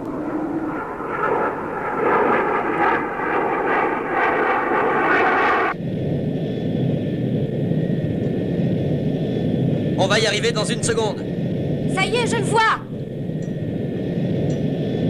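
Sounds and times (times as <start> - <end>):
aircraft engine droning: 0.0 - 15.0.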